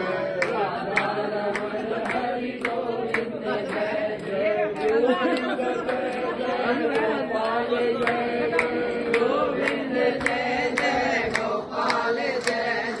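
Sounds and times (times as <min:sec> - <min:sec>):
group chanting: 0:00.0 - 0:13.0.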